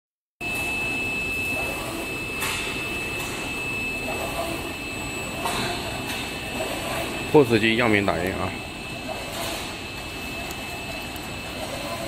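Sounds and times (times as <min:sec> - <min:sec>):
high printer whine: 0:00.4 - 0:12.0
printer carriage running: 0:00.4 - 0:12.0.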